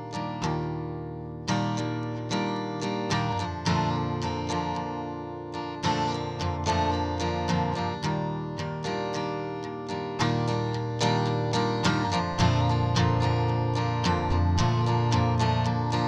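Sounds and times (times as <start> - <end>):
guitar plucking and strumming: 0.0 - 16.0.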